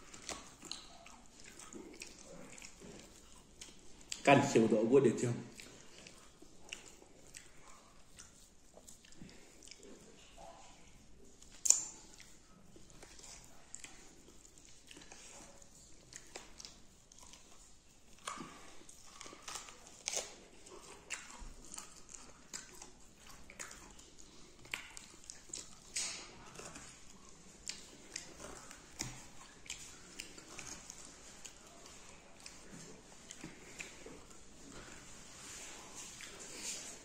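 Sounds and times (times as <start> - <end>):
wet mouth clicks and smacks: 0.0 - 4.3, 5.5 - 10.2, 11.2 - 37.0
person chewing meat: 0.0 - 37.0.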